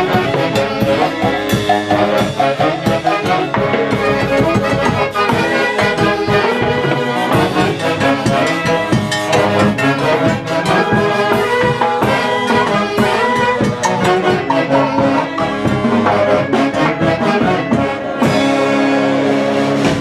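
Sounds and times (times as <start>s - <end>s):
brass band playing dance music: 0.0s - 20.0s
drums beating: 0.0s - 20.0s.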